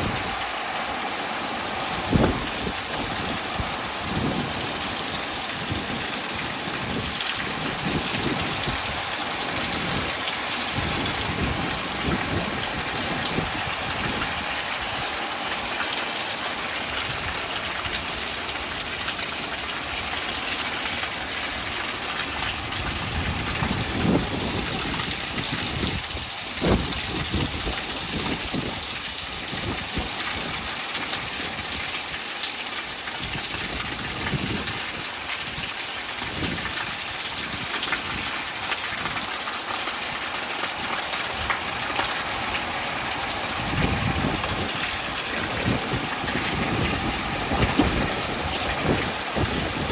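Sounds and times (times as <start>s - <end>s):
wind rumbling on microphone: 0.0s - 15.5s, 16.8s - 20.2s, 21.1s - 31.9s, 33.2s - 39.3s, 41.3s - 49.9s
heavy rain pouring: 0.0s - 49.9s.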